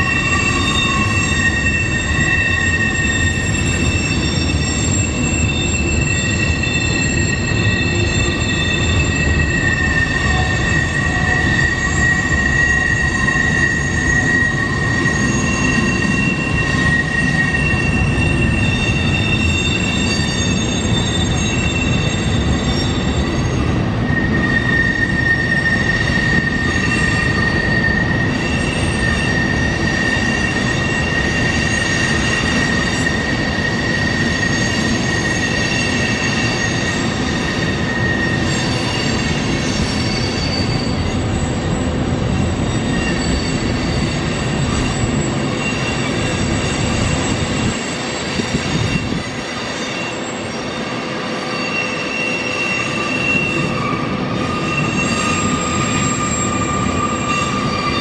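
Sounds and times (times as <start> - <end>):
steel wheels squealing on rail: 0.0 - 58.0
train wheels rumbling: 0.0 - 58.0.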